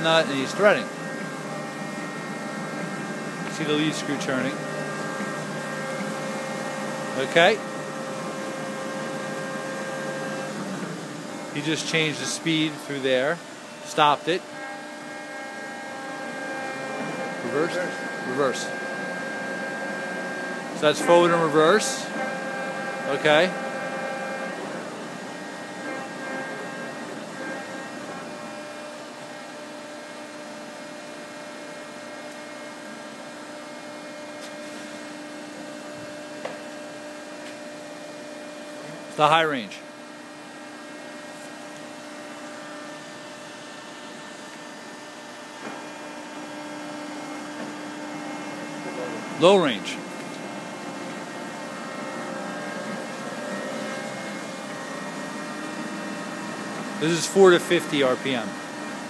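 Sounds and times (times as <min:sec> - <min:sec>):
lathe running with mechanical hum: 0:00.0 - 0:59.0.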